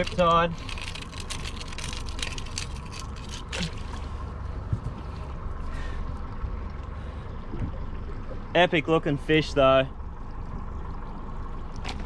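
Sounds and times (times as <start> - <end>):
low engine hum: 0.0 - 12.0
water splashing against boat: 0.0 - 12.0.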